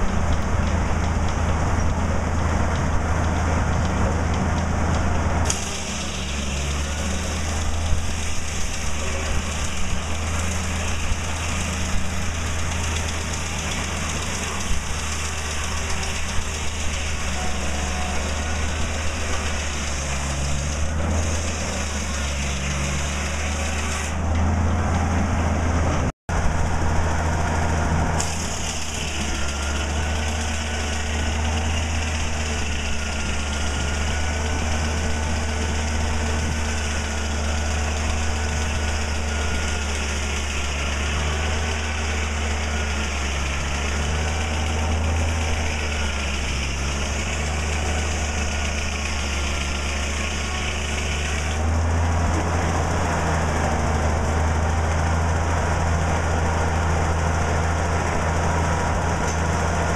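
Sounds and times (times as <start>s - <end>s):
circular saw blade cutting log: 0.0s - 59.9s
engine low hum: 0.0s - 59.9s.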